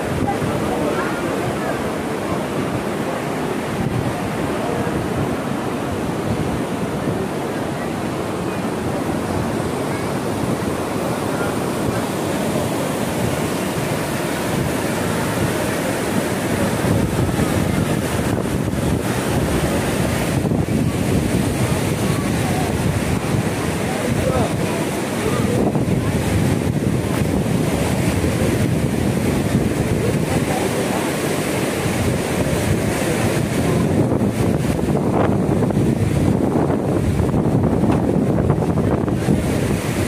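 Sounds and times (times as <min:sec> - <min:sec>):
water rushing over weir: 0:00.0 - 0:40.0.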